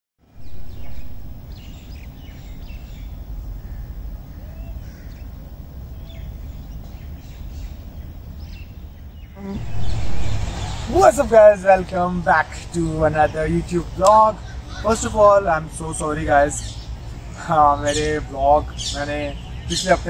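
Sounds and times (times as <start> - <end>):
birds chirping: 0.2 - 20.0
low outdoor rumble: 0.2 - 20.0.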